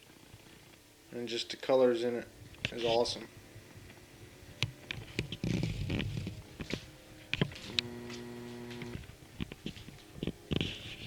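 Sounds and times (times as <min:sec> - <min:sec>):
steady low hum: 0:02.1 - 0:11.0.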